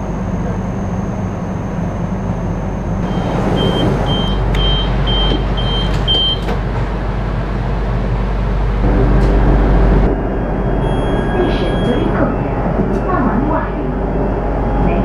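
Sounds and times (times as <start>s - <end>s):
train interior hum: 0.0s - 15.0s.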